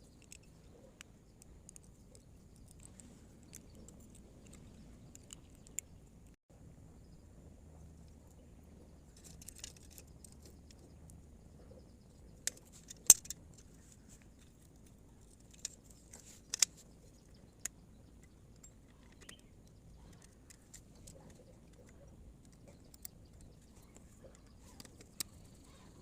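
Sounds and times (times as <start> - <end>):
small hard objects clicking: 0.0 - 6.4, 9.1 - 10.9, 12.4 - 25.9
faint steady hum: 0.0 - 26.0.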